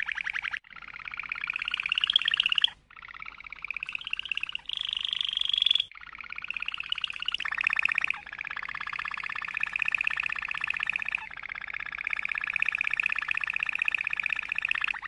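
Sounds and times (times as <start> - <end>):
canary trilling: 0.0 - 15.0.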